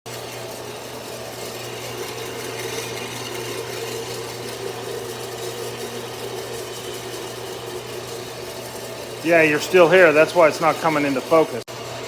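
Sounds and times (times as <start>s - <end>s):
motor humming: 0.1s - 12.0s.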